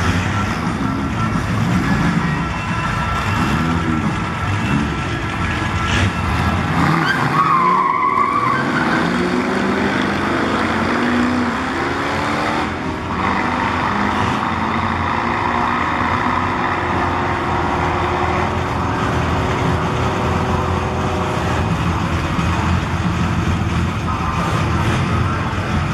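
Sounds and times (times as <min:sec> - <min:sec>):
car engines accelerating: 0:00.0 - 0:25.9.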